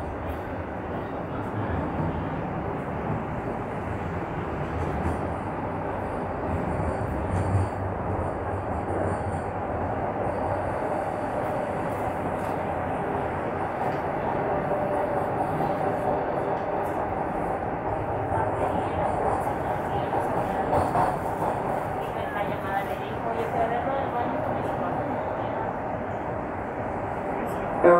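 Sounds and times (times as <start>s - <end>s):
subway train rumbling in tunnel: 0.0s - 27.9s.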